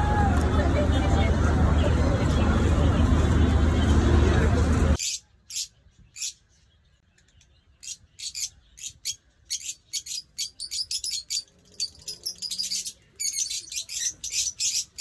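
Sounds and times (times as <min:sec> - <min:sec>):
small birds chirping: 0:01.0 - 0:15.0.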